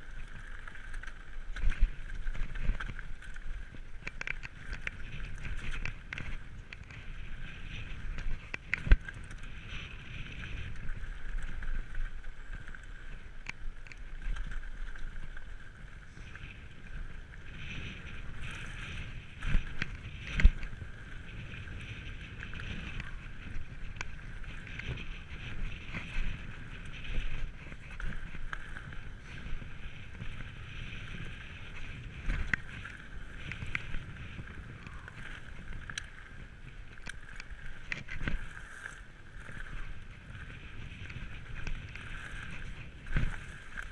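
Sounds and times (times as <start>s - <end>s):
bike rattling: 0.0s - 43.9s
tyres rumbling on gravel: 0.0s - 43.9s.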